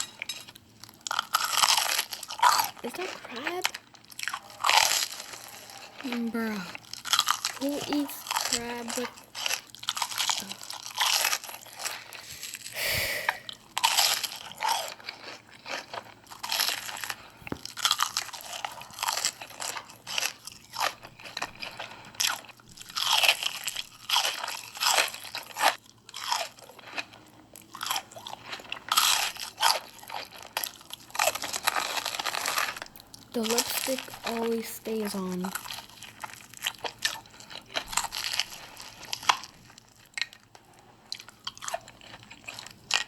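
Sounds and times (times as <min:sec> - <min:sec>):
person crunching and chewing snacks: 0:00.0 - 0:43.0.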